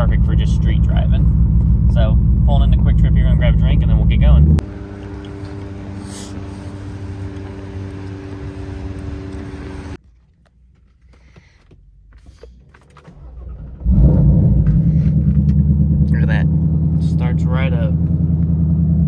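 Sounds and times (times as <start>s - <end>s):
car engine idling: 0.0s - 10.0s, 10.6s - 19.0s
car engine starting: 0.0s - 10.0s, 11.6s - 19.0s.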